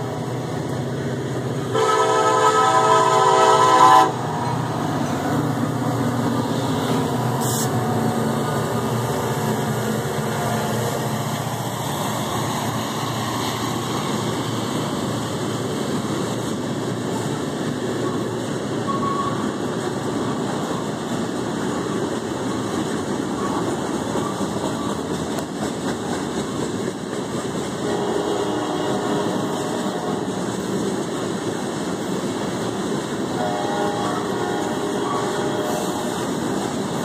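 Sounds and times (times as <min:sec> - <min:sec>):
freight train wheels rumbling: 0:00.0 - 0:37.0.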